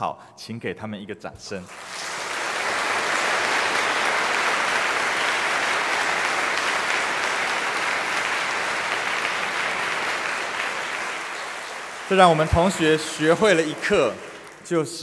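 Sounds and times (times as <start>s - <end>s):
audience applauding: 1.6s - 15.0s.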